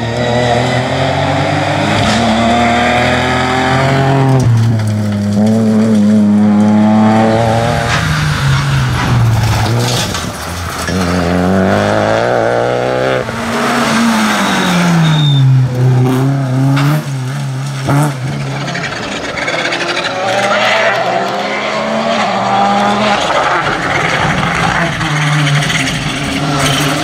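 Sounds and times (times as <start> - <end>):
rally car engines revving hard: 0.0 - 27.0
tyres skidding: 0.0 - 27.0.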